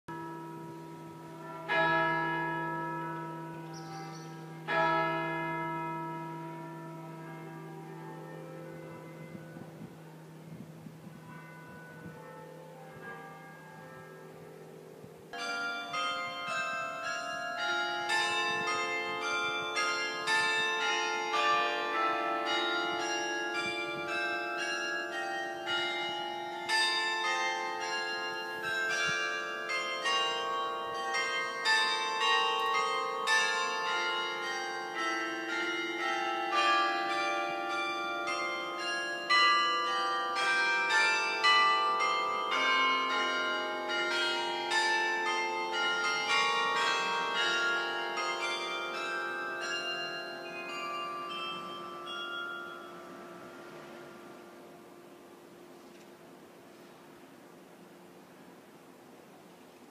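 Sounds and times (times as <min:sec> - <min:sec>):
carillon bells playing a tune: 0:00.1 - 0:14.4, 0:15.3 - 0:55.2.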